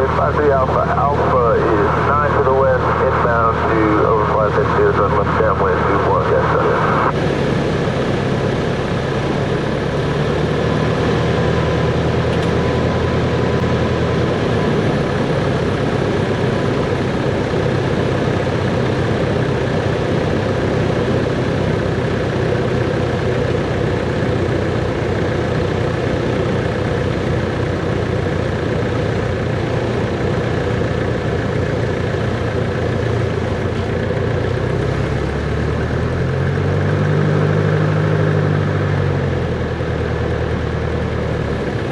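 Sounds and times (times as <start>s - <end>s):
piston aircraft engine droning: 0.0s - 41.9s.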